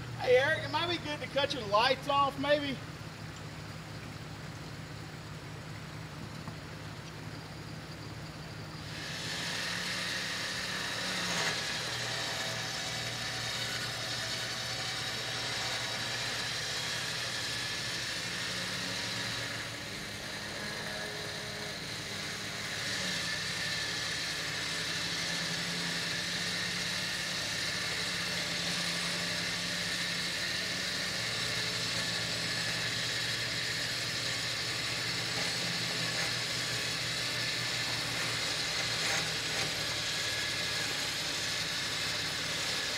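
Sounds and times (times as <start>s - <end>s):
electric winch whining: 0.0s - 42.9s.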